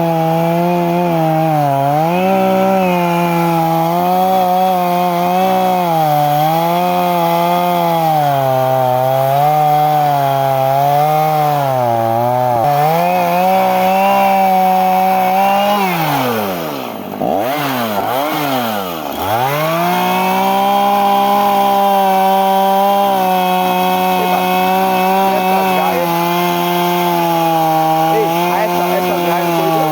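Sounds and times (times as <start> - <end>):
chainsaw engine running: 0.0 - 29.9.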